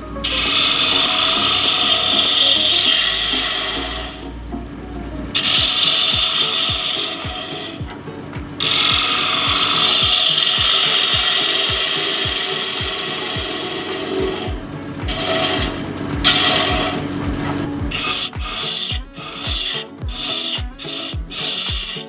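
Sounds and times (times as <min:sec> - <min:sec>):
lathe gouge rasping on wood: 0:00.2 - 0:04.2, 0:05.4 - 0:07.8, 0:08.6 - 0:22.0.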